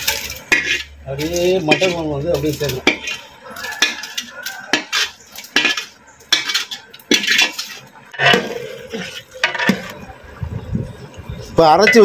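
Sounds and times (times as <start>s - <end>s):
metal ladle scraping and clanking: 0.0s - 10.1s, 11.8s - 12.0s
ladle stirring gravy: 0.0s - 10.2s.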